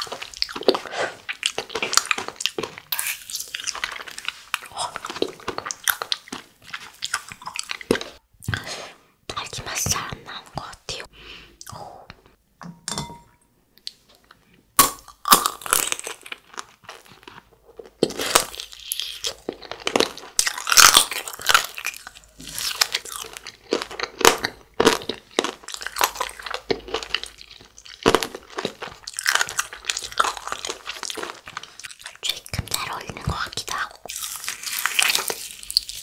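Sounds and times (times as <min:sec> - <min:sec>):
crunching hard candy: 0:00.0 - 0:08.2, 0:14.8 - 0:36.0.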